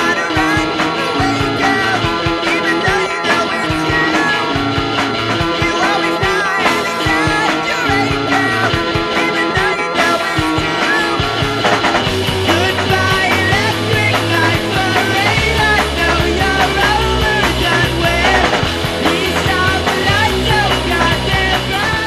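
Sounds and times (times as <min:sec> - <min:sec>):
rock music: 0:00.0 - 0:22.0.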